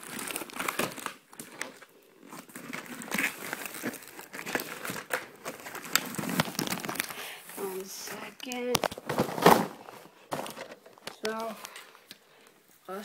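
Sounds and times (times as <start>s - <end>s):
plastic packaging crinkling: 0.0s - 12.5s.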